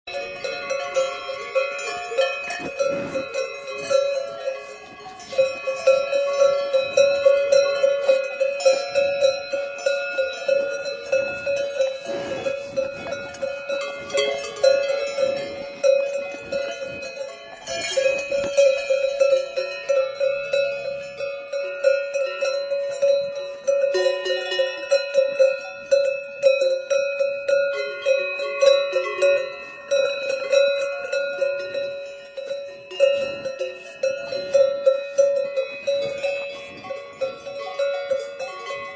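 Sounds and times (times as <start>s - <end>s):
cowbells clanking: 0.0s - 38.9s.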